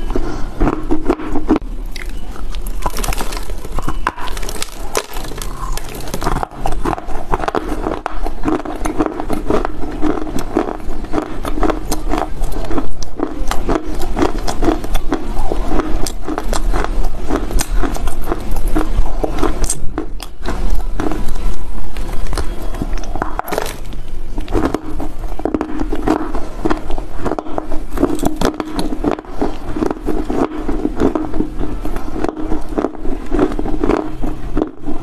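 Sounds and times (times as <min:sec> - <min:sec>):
chewing dry earth crunching: 0:00.0 - 0:35.0.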